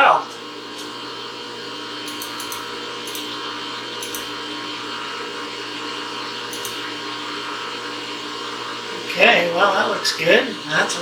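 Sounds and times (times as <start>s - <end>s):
mill axis drive whine and hum: 0.0s - 11.0s.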